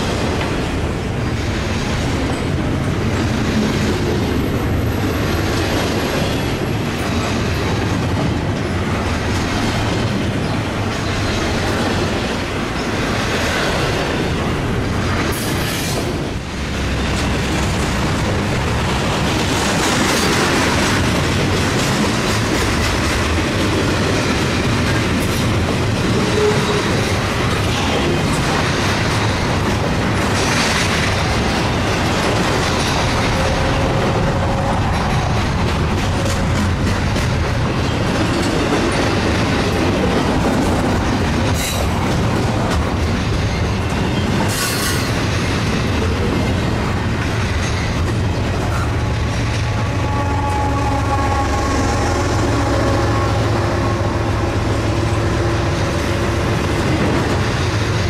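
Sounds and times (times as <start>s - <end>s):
wheels clacking over rail joints: 0.0s - 51.6s
freight train cars rumbling: 0.0s - 58.0s.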